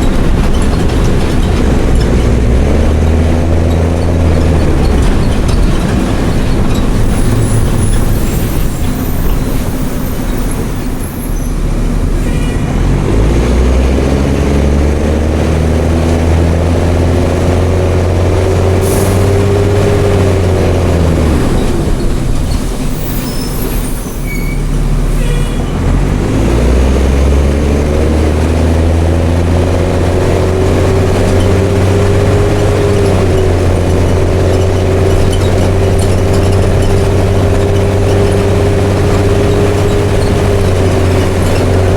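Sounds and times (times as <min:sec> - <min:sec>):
bus diesel engine under load: 0:00.0 - 0:41.9.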